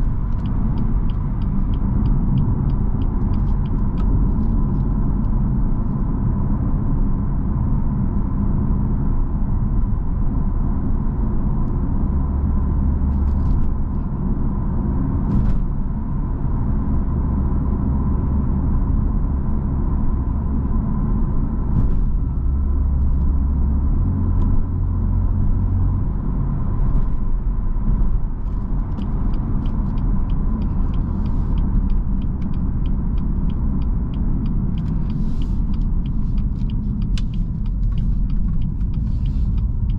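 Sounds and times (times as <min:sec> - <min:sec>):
car engine rumbling: 0:00.0 - 0:39.9
tyre and road noise: 0:00.0 - 0:39.9.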